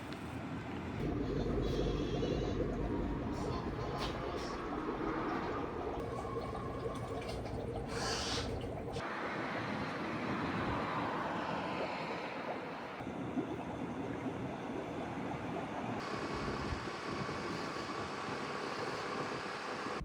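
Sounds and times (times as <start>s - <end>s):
waves breaking: 1.0s - 20.0s.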